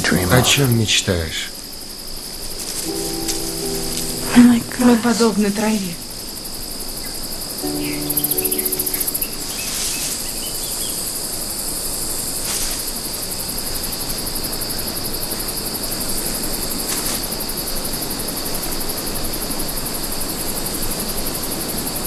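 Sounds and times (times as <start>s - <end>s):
constant hiss: 0.0s - 22.0s
insects trilling: 0.0s - 22.0s.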